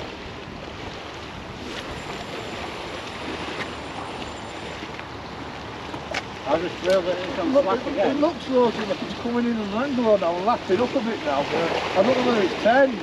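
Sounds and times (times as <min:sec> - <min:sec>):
waves washing on shore: 0:00.0 - 0:13.0.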